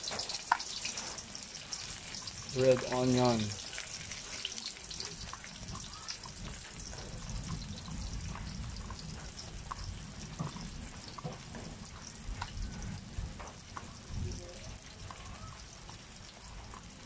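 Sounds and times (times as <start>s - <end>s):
garlic and onion sizzling in oil: 0.0s - 17.0s.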